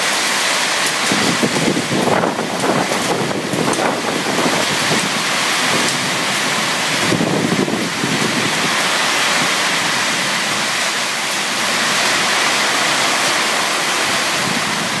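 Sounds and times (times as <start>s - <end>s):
heavy rain: 0.0s - 15.0s
strong wind: 0.0s - 15.0s.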